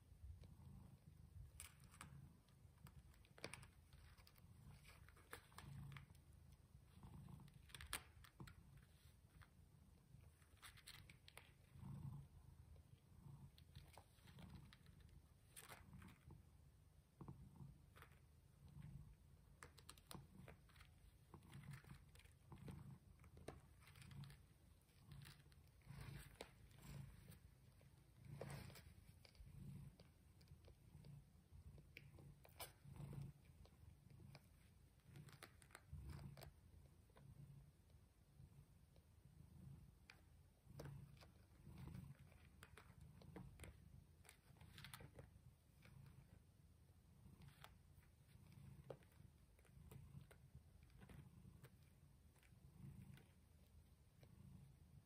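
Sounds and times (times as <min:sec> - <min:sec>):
kittens suckling and squirming: 0:00.0 - 0:55.0.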